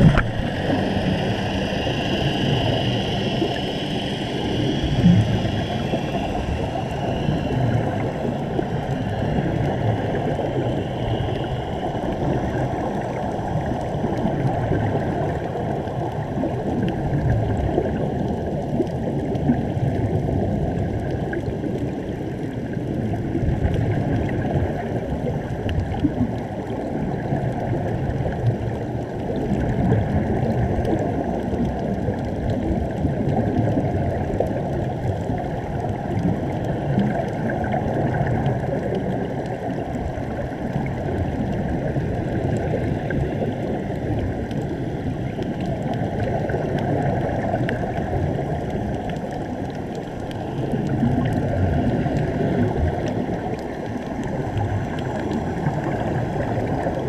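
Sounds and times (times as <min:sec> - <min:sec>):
muffled underwater air bubbling: 0:00.0 - 0:57.0.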